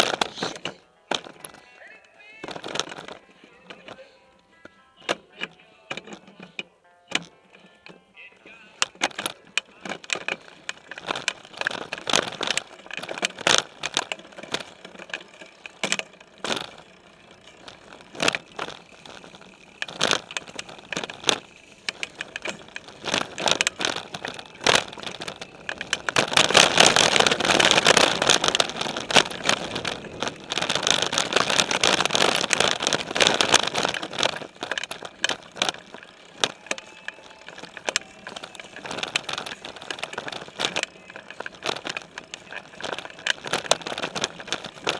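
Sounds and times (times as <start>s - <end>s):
bike rattling and knocking: 0.0s - 44.9s
bike tyres crunching over trail: 0.0s - 44.9s.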